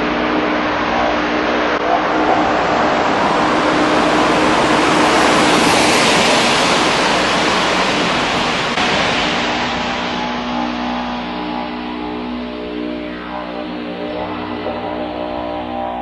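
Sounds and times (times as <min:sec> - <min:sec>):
didgeridoo droning: 0:00.0 - 0:16.0.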